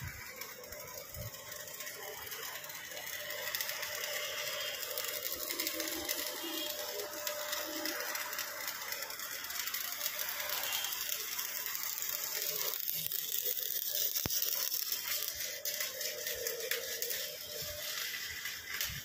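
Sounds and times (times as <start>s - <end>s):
welding arc crackling: 0.0s - 19.0s.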